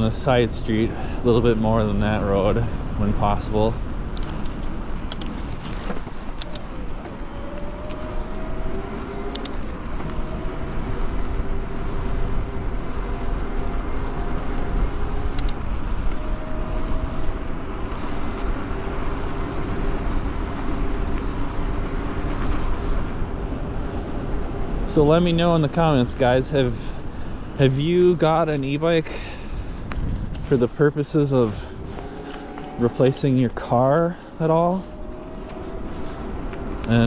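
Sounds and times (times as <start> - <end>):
electric bike motor whining: 0.0 - 37.0
wind and tyre noise: 0.0 - 37.0.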